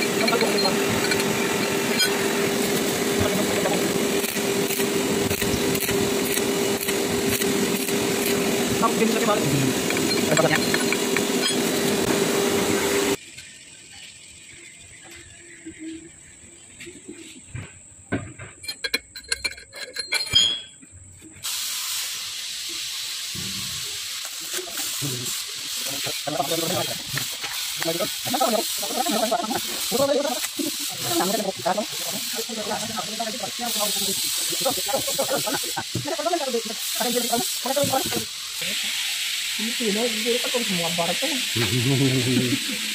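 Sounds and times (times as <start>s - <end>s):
welding arc crackling: 0.0s - 15.6s, 21.4s - 42.9s
steady hiss: 0.0s - 17.7s, 21.2s - 42.9s.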